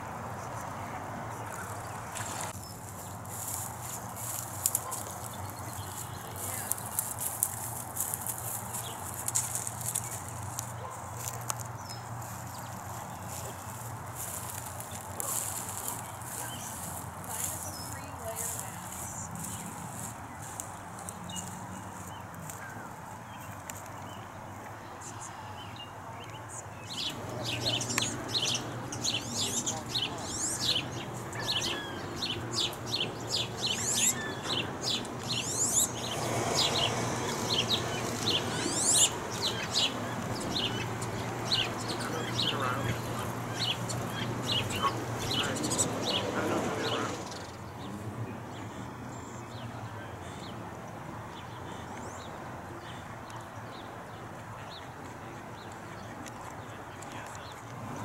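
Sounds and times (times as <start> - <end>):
small birds chirping: 0.4 - 58.0.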